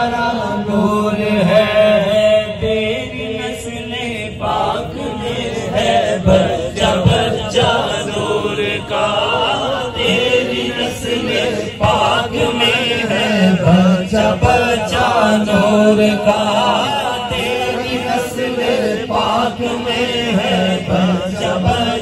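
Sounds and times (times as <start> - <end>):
men singing unaccompanied: 0.0 - 22.0.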